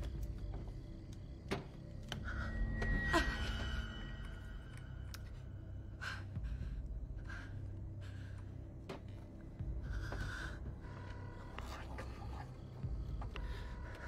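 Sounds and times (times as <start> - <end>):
low rumbling drone: 0.0 - 14.0.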